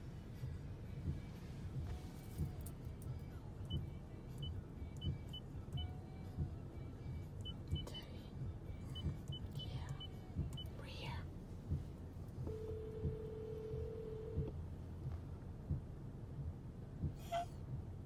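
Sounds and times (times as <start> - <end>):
car cabin engine rumble: 0.0 - 18.0.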